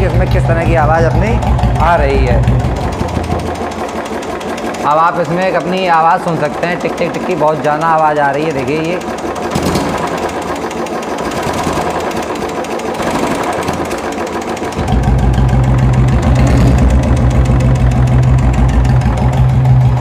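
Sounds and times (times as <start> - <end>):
motorcycle engine running: 0.0 - 20.0
rapid engine ticking: 0.0 - 20.0.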